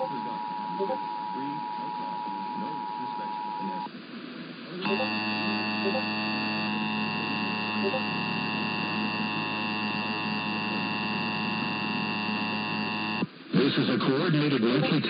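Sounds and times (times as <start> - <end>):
distorted two-tone alert signal: 0.0 - 3.9, 4.8 - 13.2.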